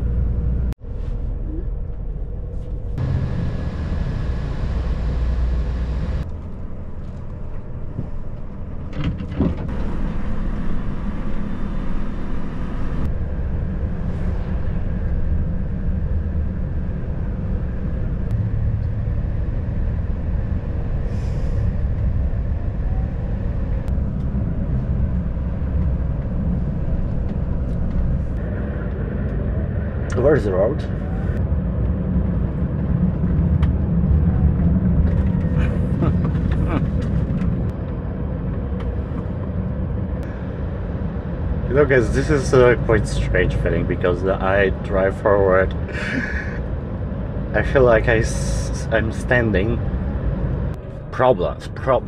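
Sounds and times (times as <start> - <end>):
road noise: 0.0 - 52.0
truck diesel engine rumble: 0.0 - 52.0.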